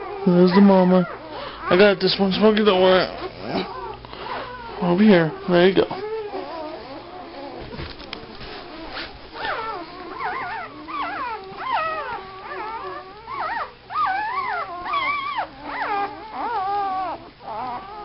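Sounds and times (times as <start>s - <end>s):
puppies whining and crying: 0.0s - 18.0s.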